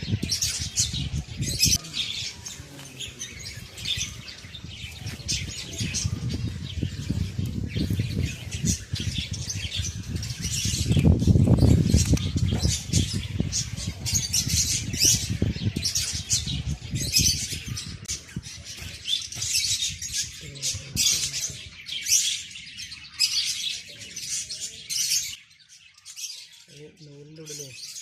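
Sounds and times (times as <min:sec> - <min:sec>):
budgies chirping and chattering: 0:00.0 - 0:28.0.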